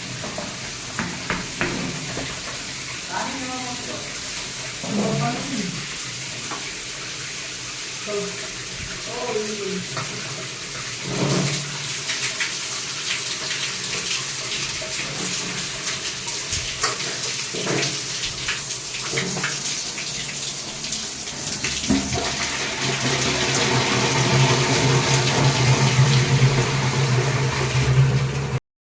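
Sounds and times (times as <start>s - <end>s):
water running from tap: 0.0s - 28.6s.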